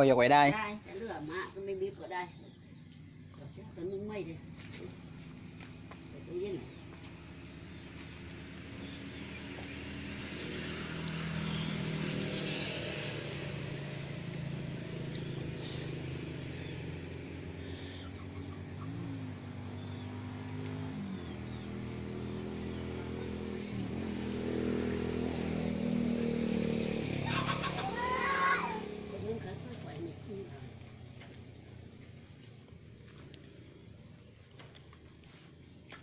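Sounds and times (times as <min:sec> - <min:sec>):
engine revving lightly: 0:02.7 - 0:35.5.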